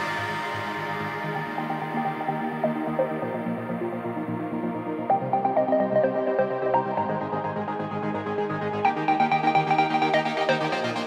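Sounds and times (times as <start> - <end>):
electronic synthesizer music: 0.0 - 11.0.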